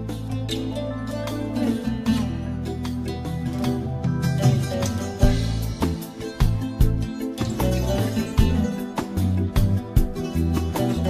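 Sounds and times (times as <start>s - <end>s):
plucked notes: 0.0s - 11.0s.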